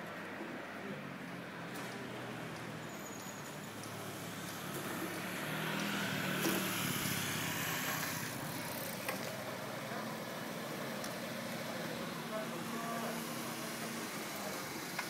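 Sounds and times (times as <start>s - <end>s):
road vehicle passing: 0.0s - 15.0s.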